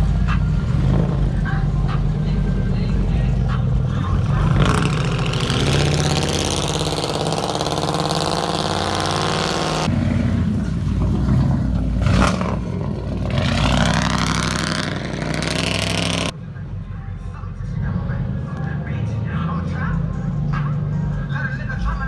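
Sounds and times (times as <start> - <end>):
car engines revving: 0.0 - 16.4, 17.6 - 22.0.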